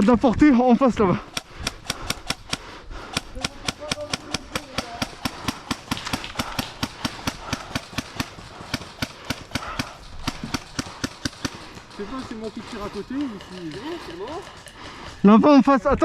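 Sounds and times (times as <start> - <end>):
airsoft gun rapid shots: 1.2 - 15.6.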